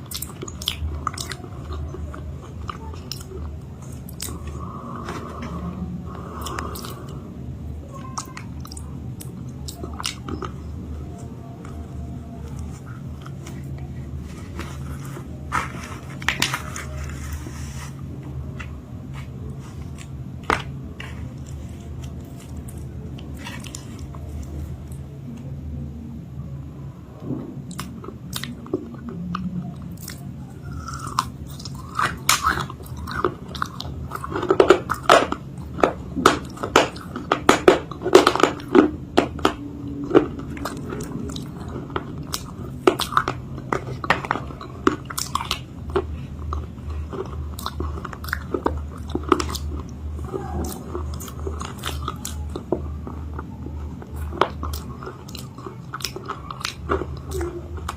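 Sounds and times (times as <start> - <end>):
crunchy chewing: 0.0 - 7.3, 7.9 - 25.1, 27.6 - 57.9.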